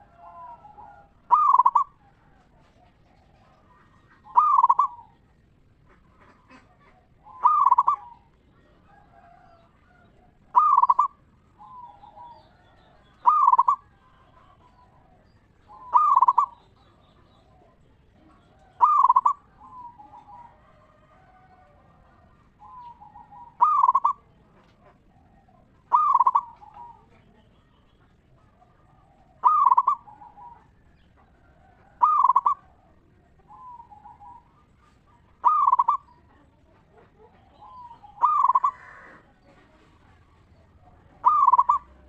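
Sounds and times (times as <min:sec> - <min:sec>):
dove cooing: 0:00.0 - 0:42.0.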